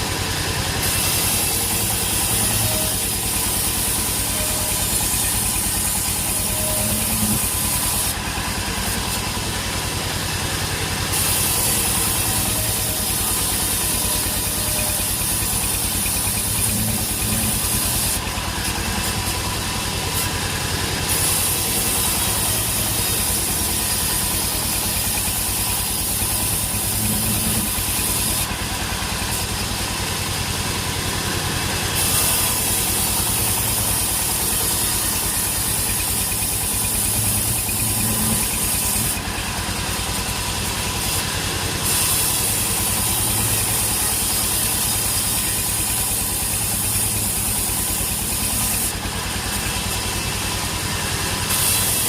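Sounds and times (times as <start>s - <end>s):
sawmill engine drone: 0.0s - 52.0s.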